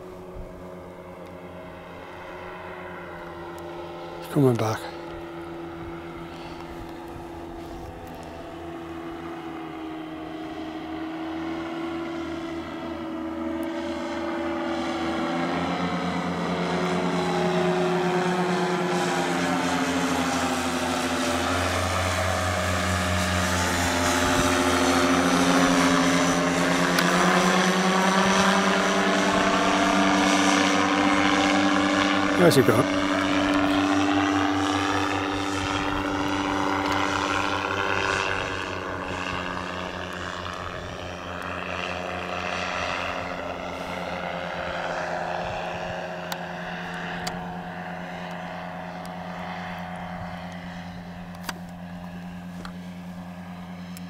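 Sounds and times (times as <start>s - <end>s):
small engine and propeller droning: 0.0s - 54.0s.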